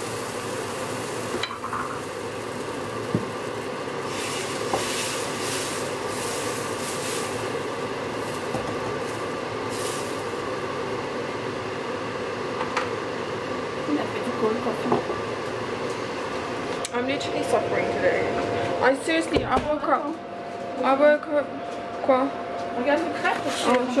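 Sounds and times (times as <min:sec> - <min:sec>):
kitchen hum: 0:00.0 - 0:24.0.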